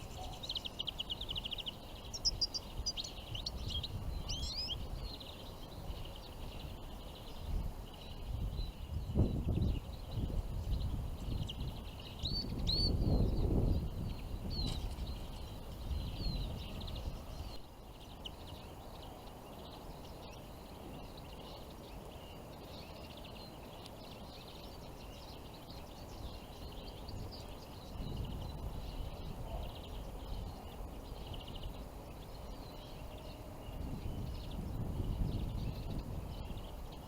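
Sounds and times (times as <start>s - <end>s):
songbirds chirping and twittering: 0.0s - 37.0s
wind rumble on microphone: 0.0s - 37.0s.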